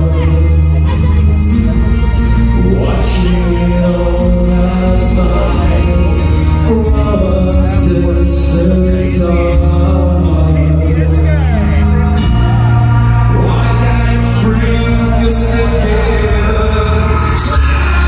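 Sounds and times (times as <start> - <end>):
live band music: 0.0 - 18.0
man singing: 0.0 - 18.0.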